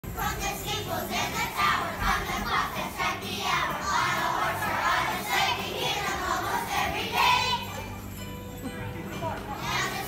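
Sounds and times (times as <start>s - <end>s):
children's choir singing: 0.1s - 7.9s, 9.6s - 10.0s.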